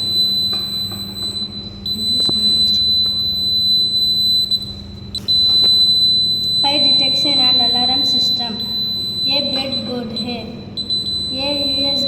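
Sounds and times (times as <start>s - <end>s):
high-pitched buzzer tone: 0.0s - 12.0s
low steady hum: 0.0s - 12.0s.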